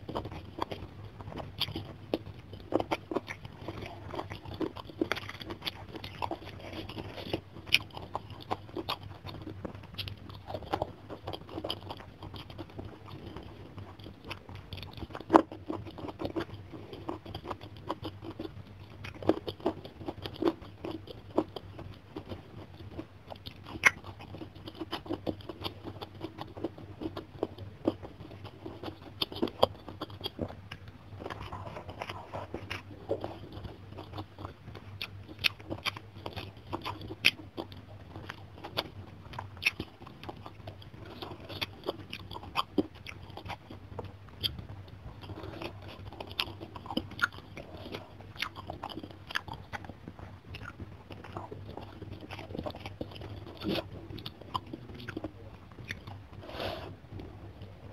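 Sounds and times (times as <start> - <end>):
faint low hum: 0.0 - 57.9
person chewing and crunching: 0.0 - 57.9.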